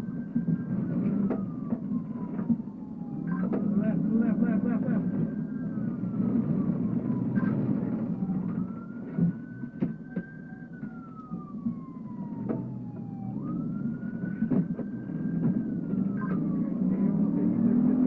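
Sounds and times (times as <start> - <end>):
police siren wailing: 0.0 - 18.0
road noise: 0.0 - 18.0
vehicle engine rumble: 0.0 - 18.0.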